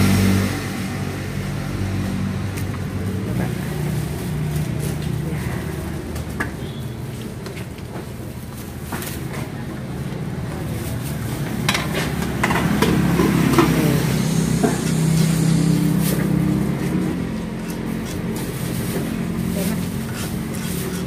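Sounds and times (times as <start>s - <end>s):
motor vehicle hum: 0.0s - 21.0s.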